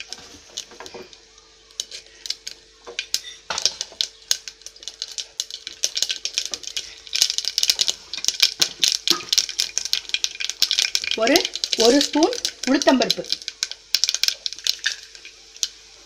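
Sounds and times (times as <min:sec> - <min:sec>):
seeds popping in hot oil: 0:00.0 - 0:16.0.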